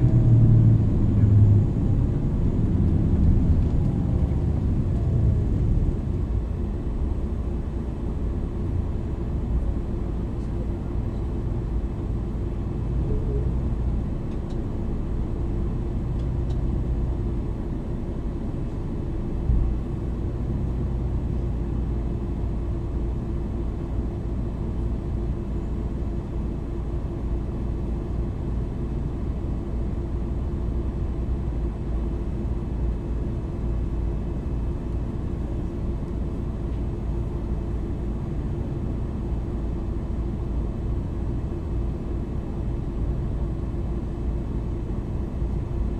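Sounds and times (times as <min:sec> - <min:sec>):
bus engine drone: 0:00.0 - 0:45.9
road rumble: 0:00.0 - 0:45.9.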